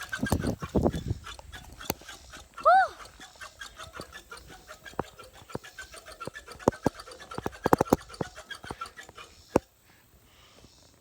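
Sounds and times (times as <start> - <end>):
bicycle rattling and clicking: 0.0 - 10.0.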